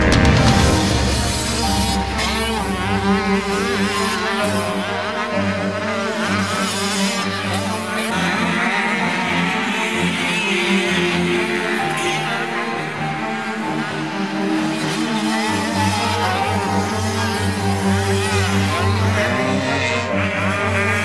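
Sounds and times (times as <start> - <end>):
motocross bikes revving past: 0.0 - 21.0.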